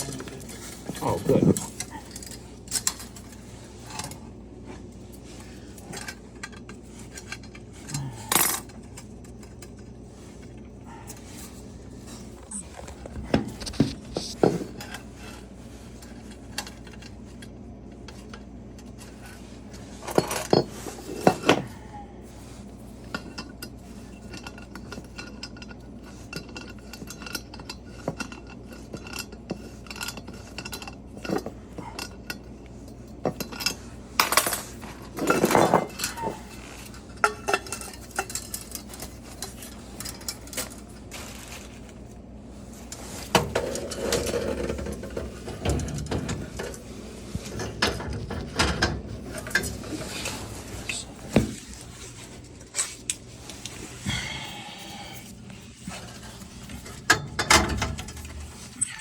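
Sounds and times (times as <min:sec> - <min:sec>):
tools and metal parts clinking: 0:00.0 - 0:04.3, 0:04.9 - 0:21.9, 0:22.9 - 0:53.7, 0:55.8 - 0:59.0
steady low hum: 0:00.0 - 0:59.0.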